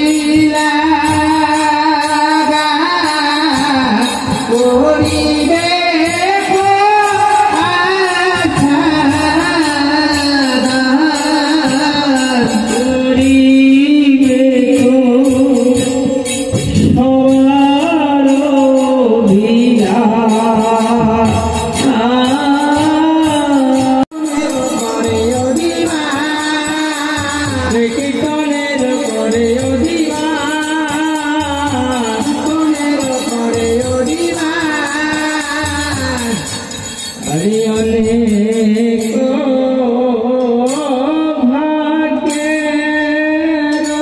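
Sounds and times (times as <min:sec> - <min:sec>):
percussion steady beat: 0:00.0 - 0:44.0
voices singing devotional melody: 0:00.0 - 0:44.0.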